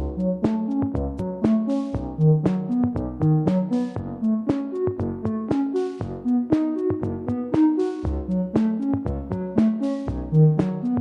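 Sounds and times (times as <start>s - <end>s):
instrumental pop music: 0.0s - 11.0s.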